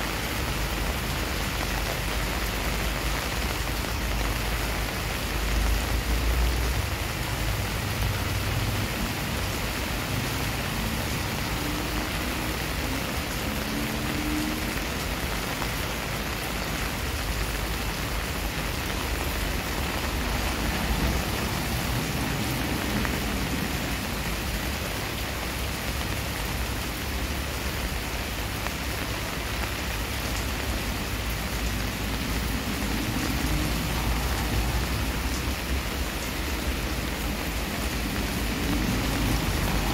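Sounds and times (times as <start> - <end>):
rain pouring on pavement: 0.0 - 39.9.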